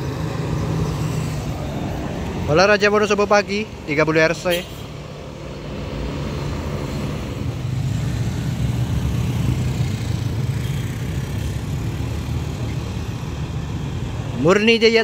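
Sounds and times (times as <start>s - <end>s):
coach diesel engines droning: 0.0s - 15.0s
motorcycles passing: 0.0s - 15.0s.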